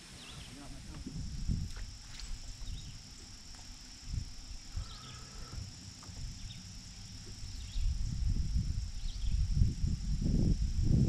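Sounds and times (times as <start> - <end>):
insects chirping: 0.0 - 11.0
low microphone rumble: 0.0 - 11.0.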